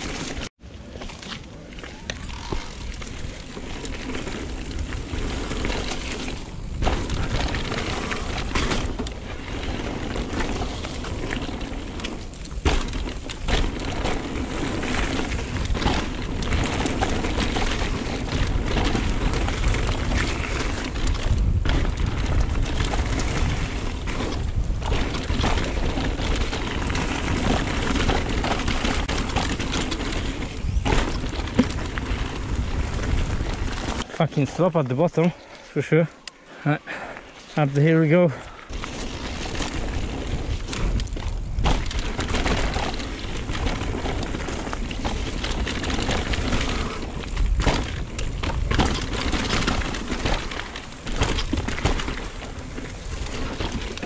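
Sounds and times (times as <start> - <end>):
bike tyres on rough dirt: 0.0 - 54.0
wind rumbling on microphone: 1.8 - 34.1, 38.5 - 54.0.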